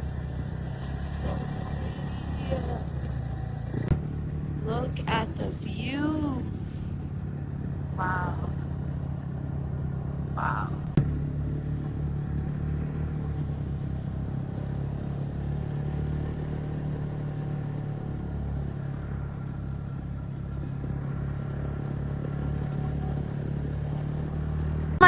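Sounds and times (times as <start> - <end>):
snowmobile engine running: 0.0 - 25.0.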